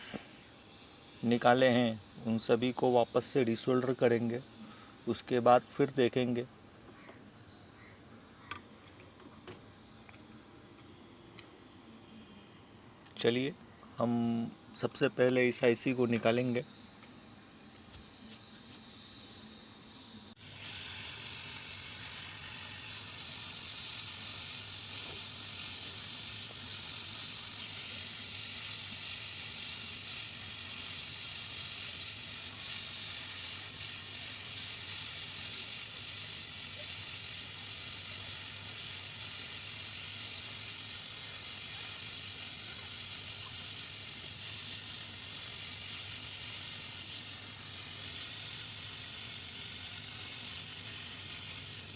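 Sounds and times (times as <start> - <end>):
hot air blower hissing: 0.0 - 6.4, 14.1 - 51.9.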